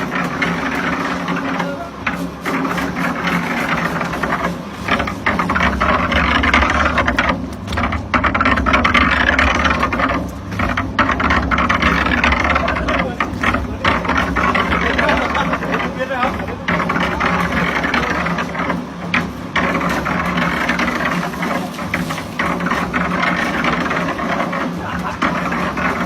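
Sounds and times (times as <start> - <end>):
grinding machine engine hum: 0.0 - 26.0
rattling churn: 0.0 - 26.0.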